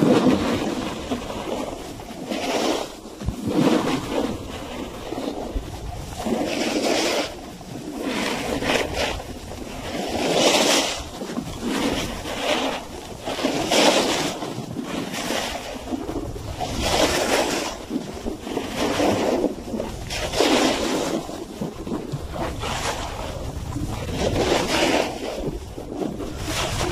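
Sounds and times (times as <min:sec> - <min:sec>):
snowboard edges scraping snow: 0:00.0 - 0:17.9, 0:18.5 - 0:21.4, 0:22.4 - 0:26.9
wind rumble on microphone: 0:00.0 - 0:26.9.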